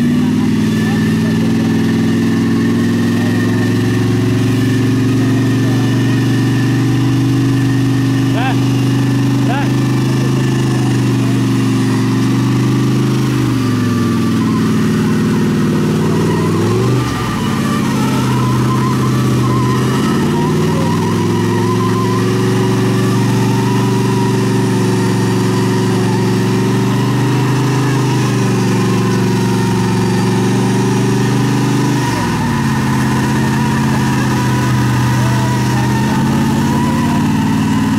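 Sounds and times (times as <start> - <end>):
vehicle engine running hard: 0.0 - 37.9.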